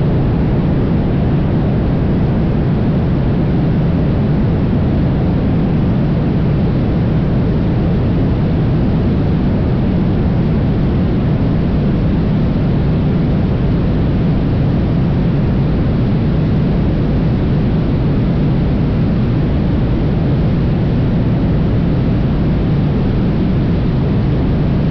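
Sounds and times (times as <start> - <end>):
airplane engine and propeller drone: 0.0 - 24.9
rushing wind: 0.0 - 24.9.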